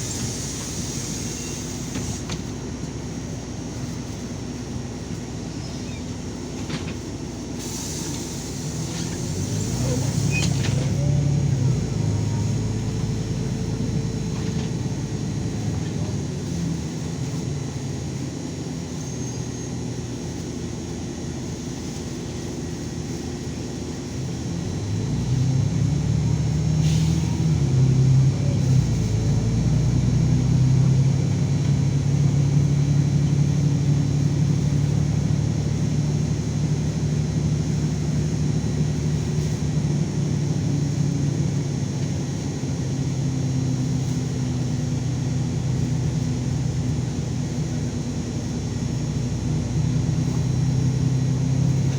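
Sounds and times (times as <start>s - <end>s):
bus engine humming: 0.0s - 51.9s.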